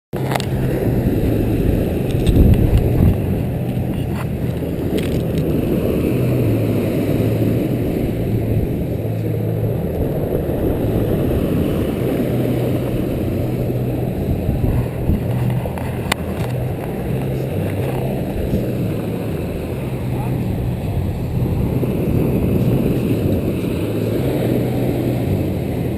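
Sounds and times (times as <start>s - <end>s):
motor running with rushing noise: 0.2s - 25.9s.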